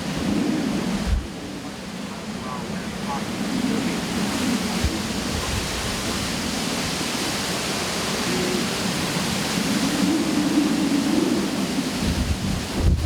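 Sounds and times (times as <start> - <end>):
low wavering wind howl: 0.0 - 13.0
wind and heavy rain: 0.0 - 13.0.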